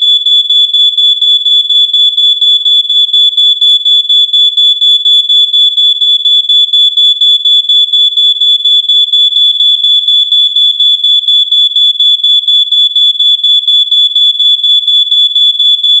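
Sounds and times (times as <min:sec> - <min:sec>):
smoke detector alarm beeping: 0:00.0 - 0:16.0.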